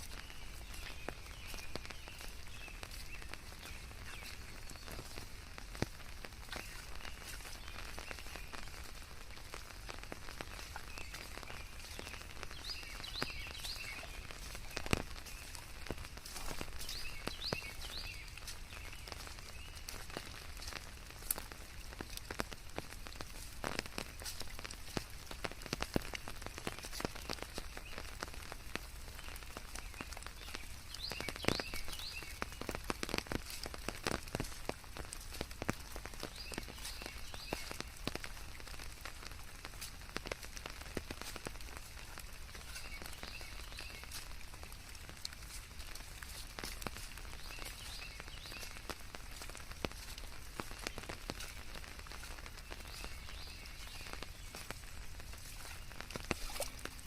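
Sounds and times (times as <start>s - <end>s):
rain falling: 0.0s - 57.0s
raindrops ticking on leaves: 0.0s - 57.0s.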